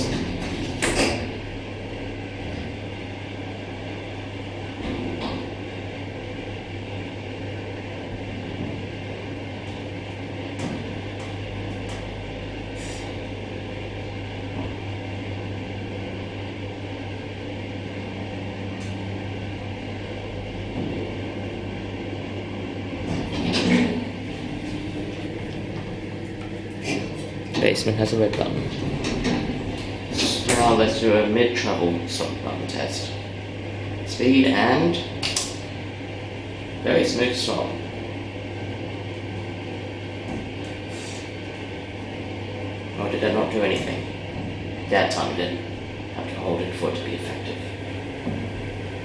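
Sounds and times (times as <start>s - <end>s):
ventilation fan running: 0.0s - 49.0s.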